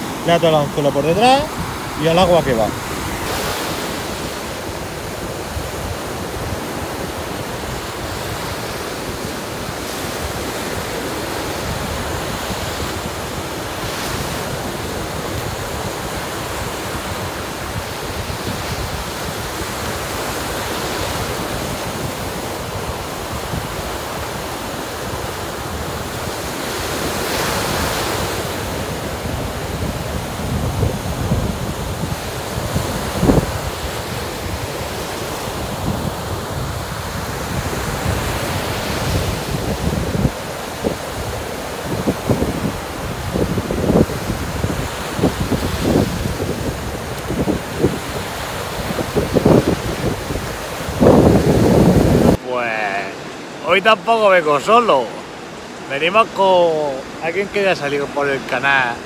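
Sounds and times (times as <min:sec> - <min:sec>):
wind on microphone: 0:00.0 - 0:52.5
surf washing onto sandy beach: 0:00.0 - 0:59.0.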